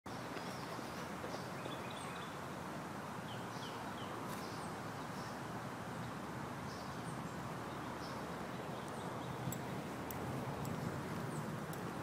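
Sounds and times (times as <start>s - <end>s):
outdoor background hiss: 0.1s - 12.0s.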